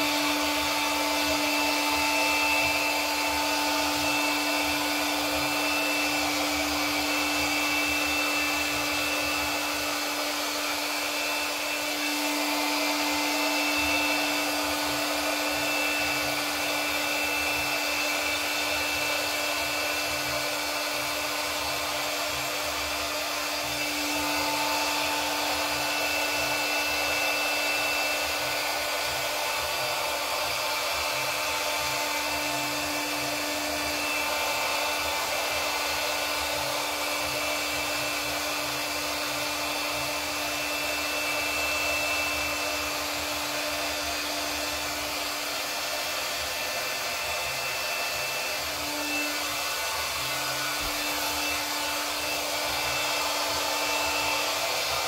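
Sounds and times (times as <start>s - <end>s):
hot-air blower hissing: 0.0s - 55.0s.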